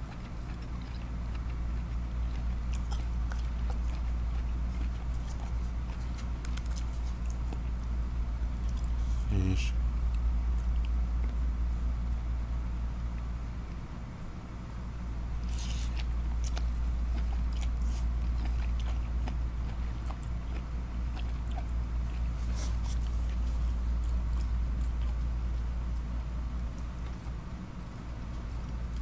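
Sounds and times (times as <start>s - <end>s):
person chewing: 0.0s - 11.4s, 15.3s - 27.4s
steady low hum: 0.0s - 29.0s.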